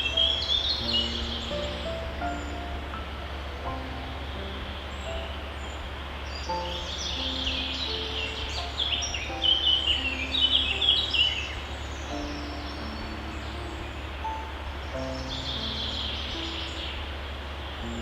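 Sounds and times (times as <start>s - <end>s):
soft ambient music: 0.0s - 18.0s
songbirds chirping: 0.0s - 18.0s
steady low drone: 0.0s - 18.0s.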